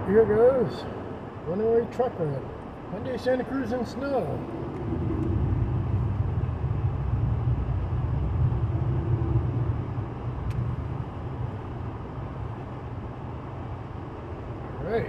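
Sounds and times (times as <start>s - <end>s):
tyres and road noise rumble: 0.0s - 15.0s.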